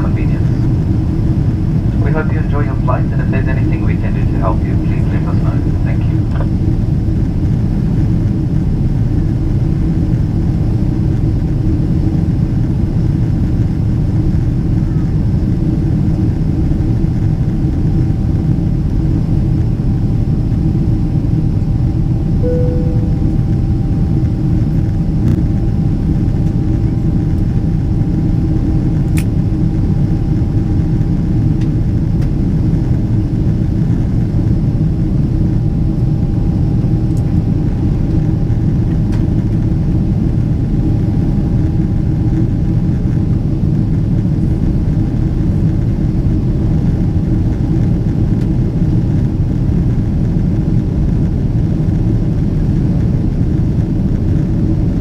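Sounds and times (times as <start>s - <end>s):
airplane cabin engine rumble: 0.0s - 55.0s
faint steady whine: 0.0s - 55.0s.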